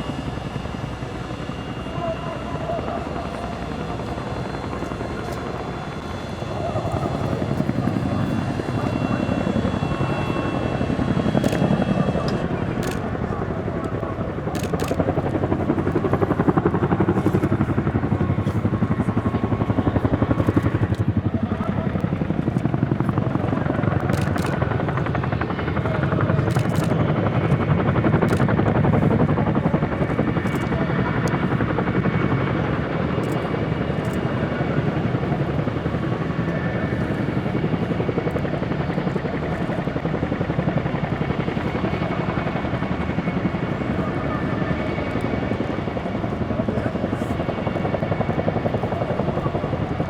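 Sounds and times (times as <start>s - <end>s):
helicopter rotors beating: 0.0s - 50.0s.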